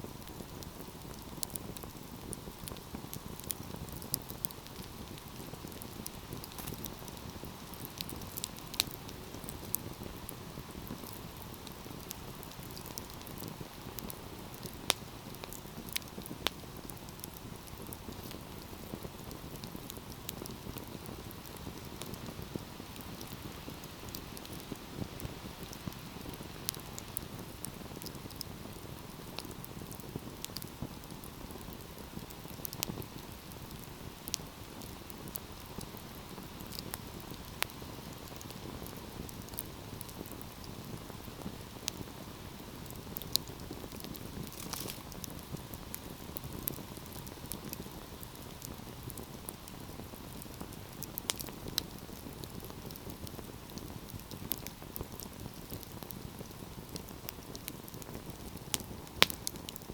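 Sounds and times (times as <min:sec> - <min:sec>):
logs crackling and popping: 0:00.0 - 0:59.9
wood fire hissing and rumbling: 0:00.0 - 0:59.9.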